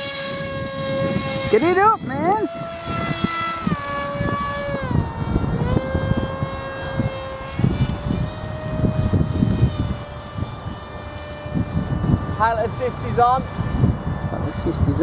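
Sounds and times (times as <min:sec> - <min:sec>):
electric rc plane propeller whining: 0:00.0 - 0:15.0.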